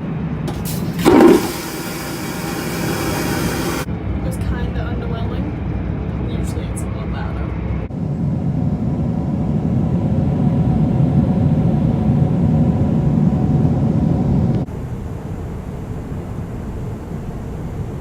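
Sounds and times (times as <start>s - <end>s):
airliner engine and airflow drone: 0.0s - 18.0s.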